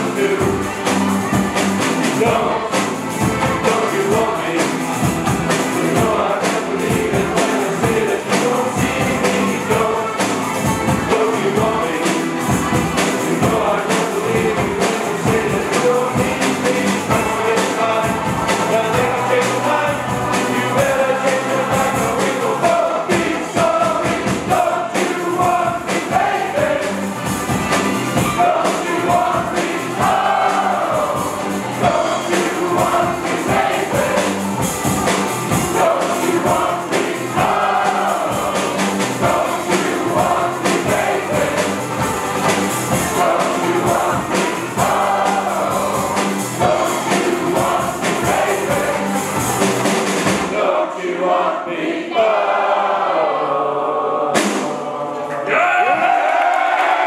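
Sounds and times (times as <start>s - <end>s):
group of voices singing: 0.0s - 57.0s.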